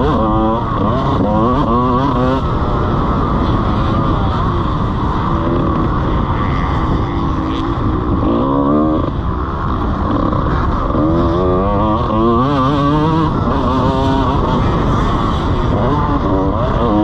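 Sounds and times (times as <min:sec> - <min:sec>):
motorbike engine revving: 0:00.0 - 0:17.0
wind and track noise: 0:00.0 - 0:17.0.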